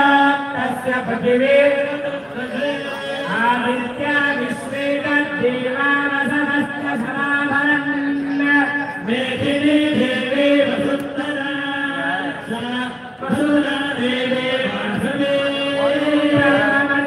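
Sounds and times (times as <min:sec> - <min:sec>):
voices chanting mantras: 0:00.0 - 0:17.0.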